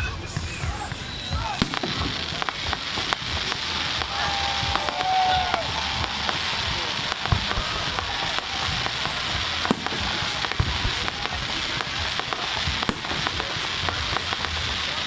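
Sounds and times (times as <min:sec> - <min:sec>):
fireworks crackling: 0:00.0 - 0:15.0
fireworks low booms: 0:00.0 - 0:15.0
fireworks sharp cracks: 0:00.0 - 0:15.0.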